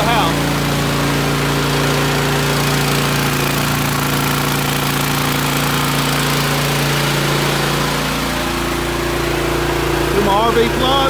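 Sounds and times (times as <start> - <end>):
generator engine humming: 0.0 - 11.0.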